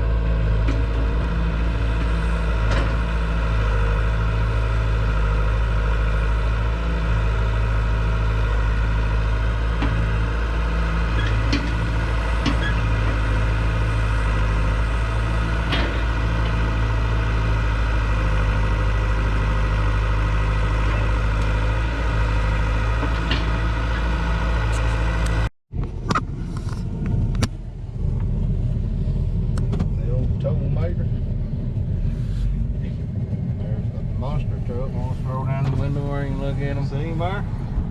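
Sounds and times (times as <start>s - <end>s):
engine running steadily: 0.0s - 37.9s
rough vehicle rumble: 0.0s - 37.9s.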